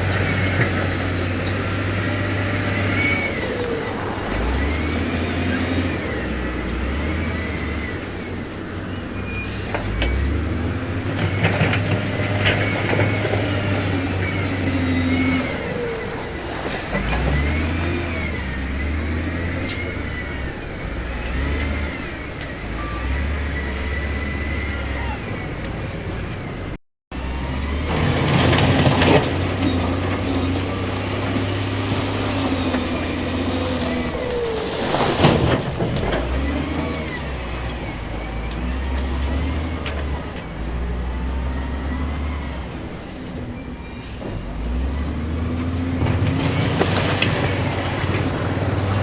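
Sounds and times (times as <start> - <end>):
diesel engine rumbling: 0.0 - 49.0.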